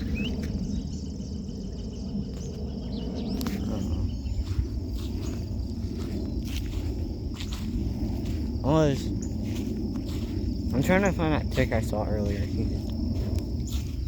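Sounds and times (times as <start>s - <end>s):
insect trill: 0.0s - 14.0s
low rumble: 0.0s - 14.0s.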